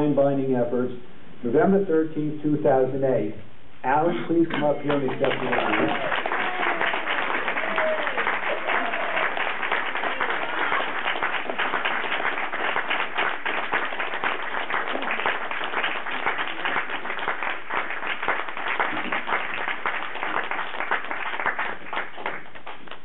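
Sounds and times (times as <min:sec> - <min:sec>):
audience applauding: 0:04.5 - 0:23.0.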